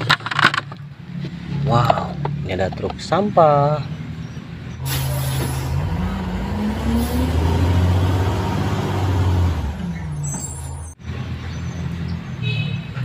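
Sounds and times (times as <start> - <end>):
large truck engine running: 0.0 - 11.8.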